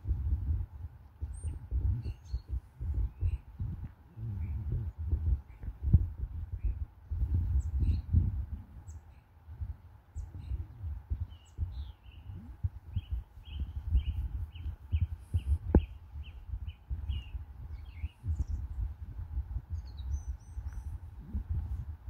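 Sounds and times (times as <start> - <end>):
birds chirping: 0.0 - 22.0
steady low rumble: 0.0 - 22.0.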